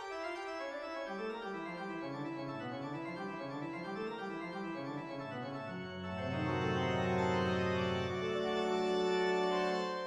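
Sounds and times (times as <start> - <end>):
organ music: 0.0 - 10.0.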